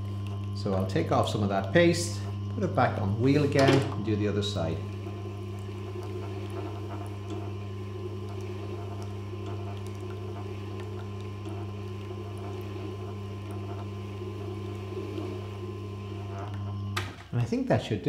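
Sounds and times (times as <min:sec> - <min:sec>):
sharpening machine humming: 0:00.0 - 0:17.3.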